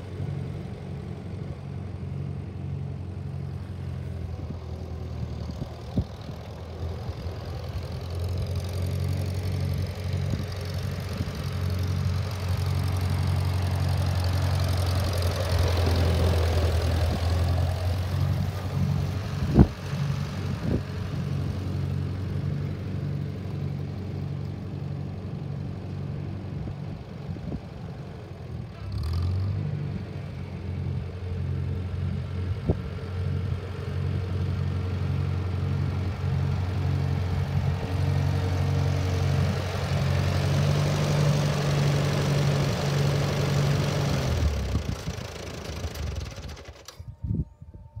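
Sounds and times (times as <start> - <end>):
tractor engine running: 0.0 - 47.4.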